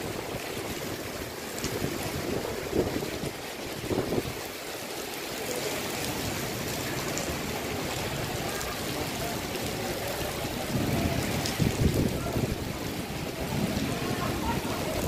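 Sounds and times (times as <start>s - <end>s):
heavy rain pouring: 0.0s - 15.0s
water running and splashing: 0.0s - 15.0s.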